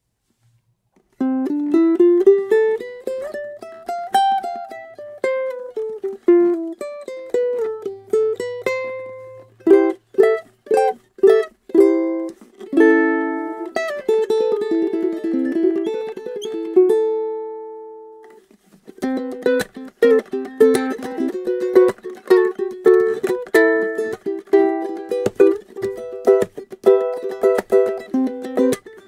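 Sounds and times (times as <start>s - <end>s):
ukulele fingerpicked: 0.3s - 29.0s.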